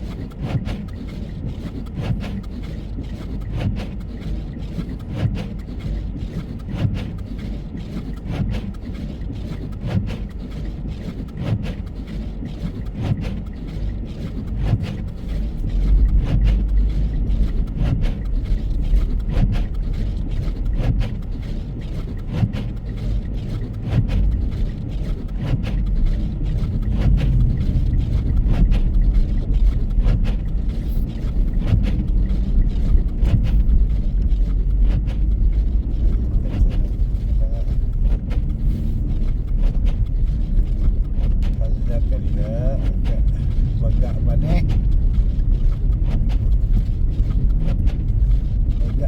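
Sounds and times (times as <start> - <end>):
car engine and tyres rumbling: 0.0 - 49.0.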